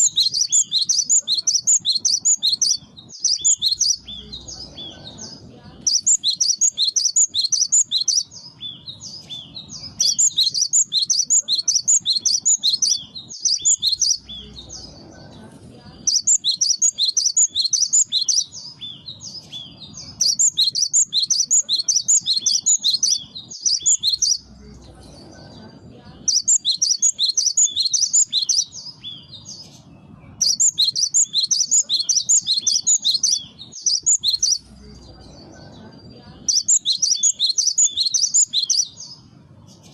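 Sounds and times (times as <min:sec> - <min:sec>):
bird chirping rapidly: 0:00.0 - 0:15.1, 0:16.0 - 0:39.9.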